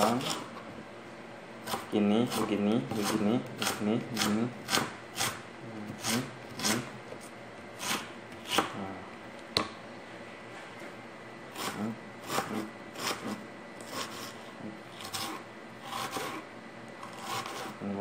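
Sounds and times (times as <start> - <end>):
knife cutting onion: 0.0 - 0.7, 1.6 - 9.0, 11.5 - 18.0.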